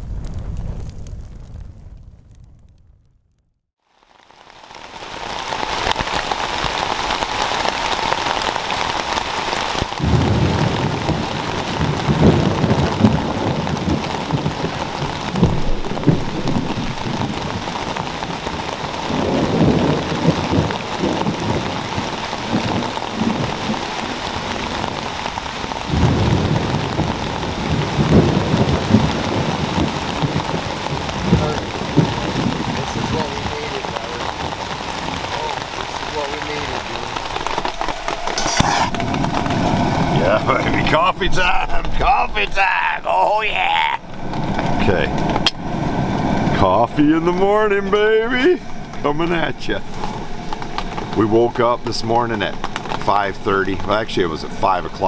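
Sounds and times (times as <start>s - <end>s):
thunder rumbling: 0.0s - 3.4s, 4.9s - 55.0s
heavy rain pouring: 3.8s - 55.0s.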